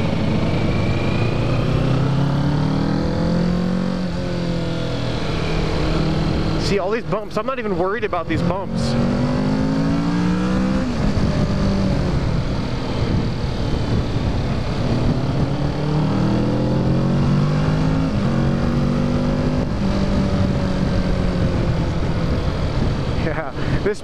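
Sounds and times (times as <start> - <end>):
motorcycle engine revving: 0.0 - 23.7
wind noise: 0.0 - 24.0.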